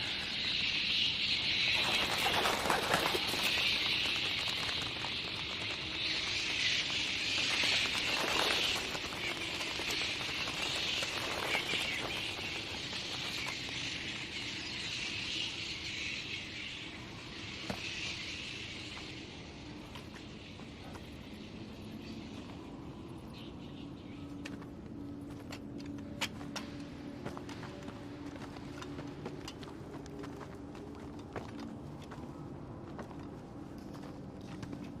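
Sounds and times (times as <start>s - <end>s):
insect-like chirring hiss: 0.0s - 32.6s.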